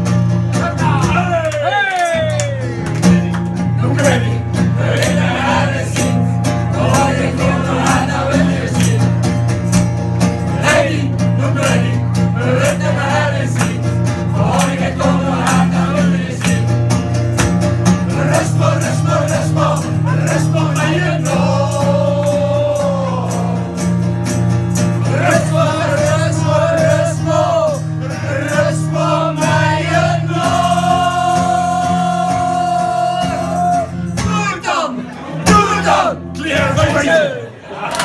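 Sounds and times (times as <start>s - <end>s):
acoustic guitar: 0.0s - 38.0s
group of people singing: 3.6s - 9.4s, 10.2s - 17.0s, 17.8s - 24.1s, 24.8s - 38.0s.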